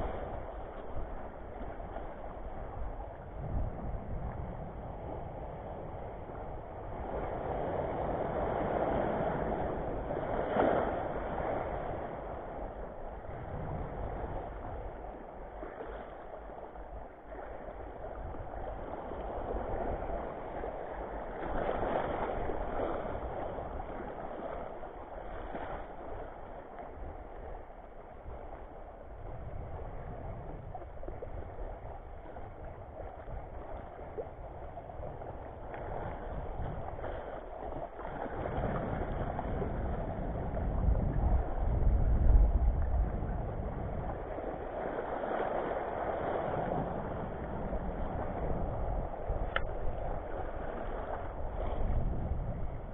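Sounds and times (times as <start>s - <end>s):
small waves splashing over reef: 0.0s - 52.9s.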